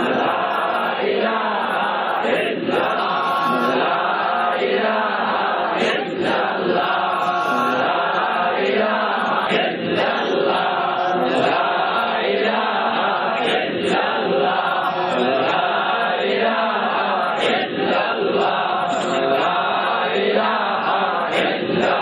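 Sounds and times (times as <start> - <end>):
congregation chanting in unison: 0.0 - 22.0.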